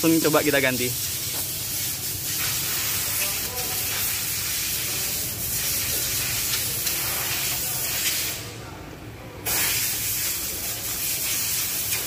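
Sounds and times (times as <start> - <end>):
loud steady hiss: 0.0 - 8.6, 9.4 - 12.0.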